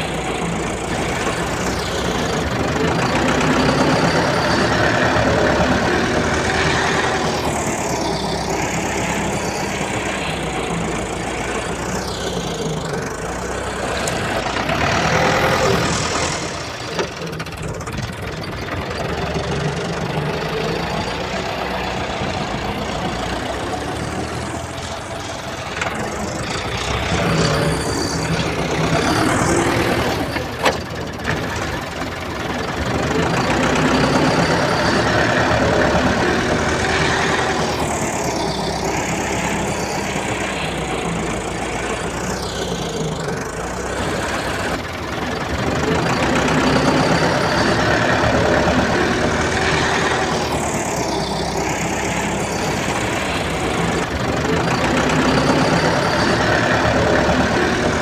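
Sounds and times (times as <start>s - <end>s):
backhoe diesel engine revving: 0.0s - 58.0s.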